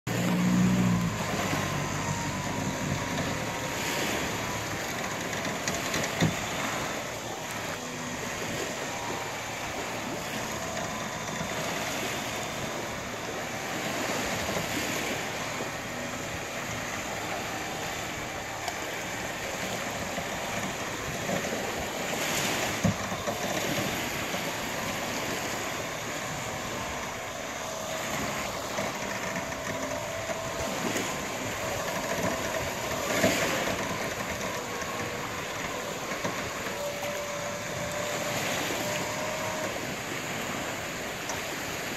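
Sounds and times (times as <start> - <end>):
engine running low: 0.0 - 41.9
small waves washing onto beach: 0.1 - 41.9.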